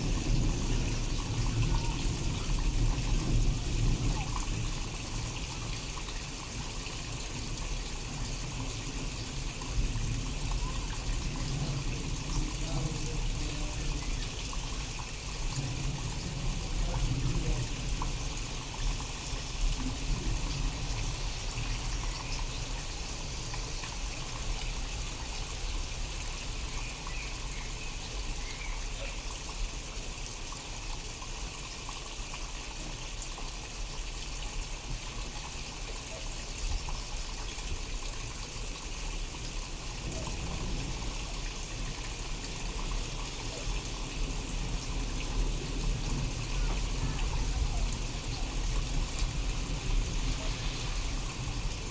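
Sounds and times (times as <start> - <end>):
low rumble of thunder: 0.0 - 29.8, 32.8 - 51.9
steady rain falling: 0.0 - 51.9.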